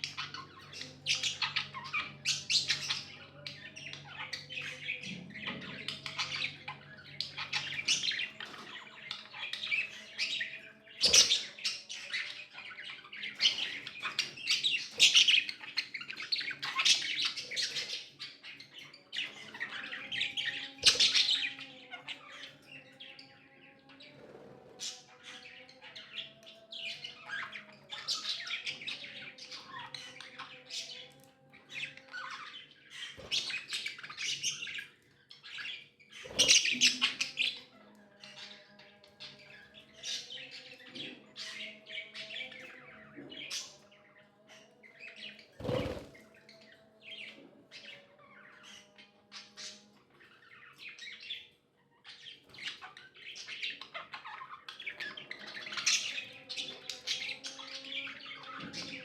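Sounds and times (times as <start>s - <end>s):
budgies chirping and squawking: 0.0s - 59.0s.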